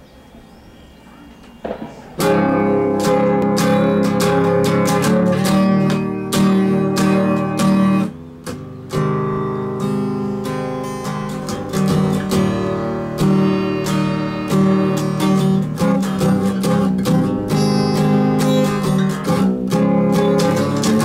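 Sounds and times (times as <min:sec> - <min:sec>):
nylon-string guitar strumming: 0:00.0 - 0:21.0.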